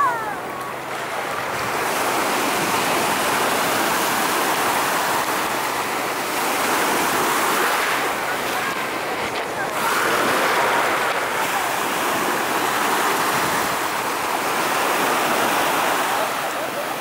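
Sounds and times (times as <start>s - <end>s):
small waves breaking: 0.0s - 17.0s.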